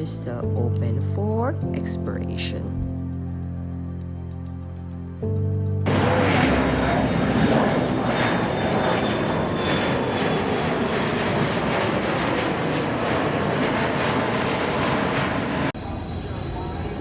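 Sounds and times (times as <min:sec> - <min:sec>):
airplane engines rushing: 0:00.0 - 0:17.0.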